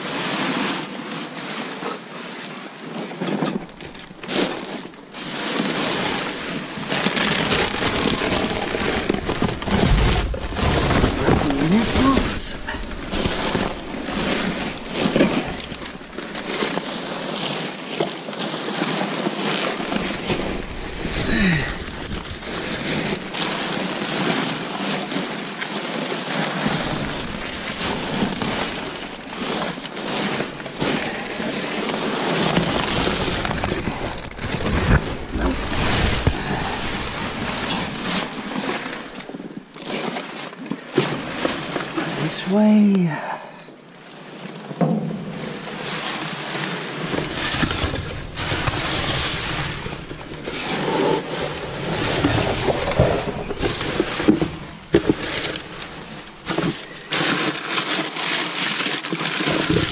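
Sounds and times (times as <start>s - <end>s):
plastic wrap crinkling: 2.9s - 42.3s, 45.3s - 59.9s.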